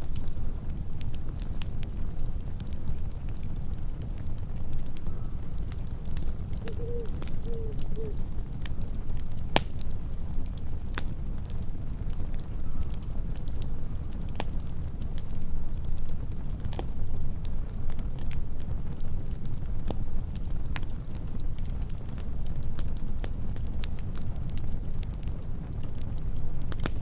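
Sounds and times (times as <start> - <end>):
campfire crackling and popping: 0.0 - 27.0
cricket chirping: 0.0 - 27.0.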